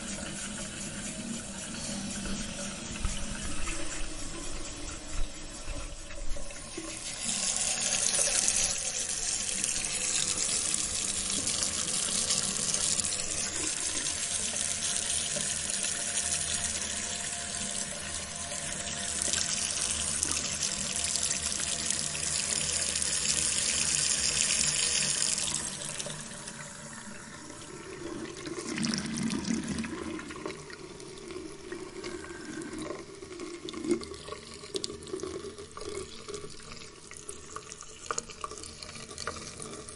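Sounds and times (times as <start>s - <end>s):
water running: 0.0s - 39.9s.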